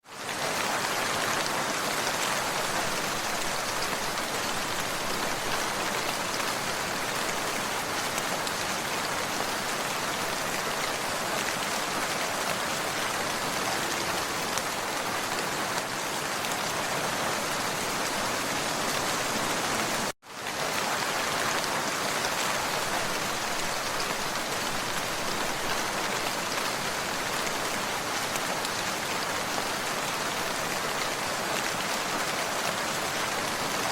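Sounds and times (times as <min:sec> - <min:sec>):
dense rainfall: 0:00.0 - 0:33.9.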